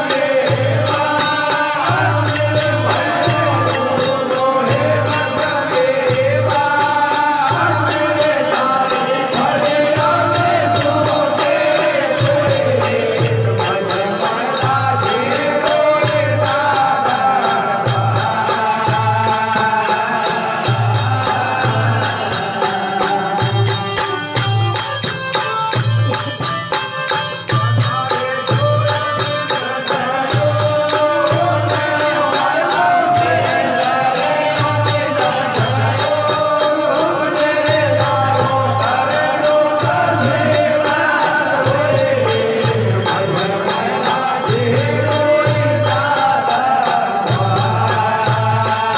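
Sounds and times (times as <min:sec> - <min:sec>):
jingling cymbal strikes: 0:00.0 - 0:48.9.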